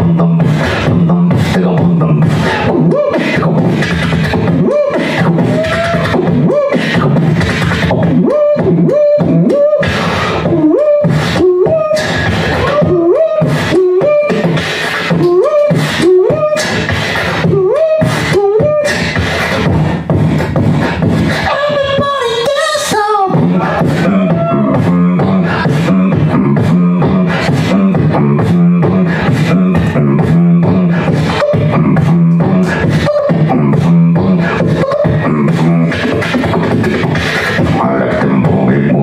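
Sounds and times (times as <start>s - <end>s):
swooping vocal line: 0.0s - 19.2s, 21.3s - 39.0s
person beatboxing: 0.0s - 39.0s.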